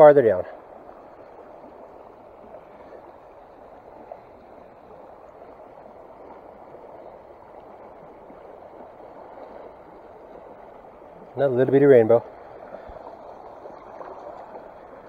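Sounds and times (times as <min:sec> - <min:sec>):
creek rushing over stones: 0:00.0 - 0:15.0.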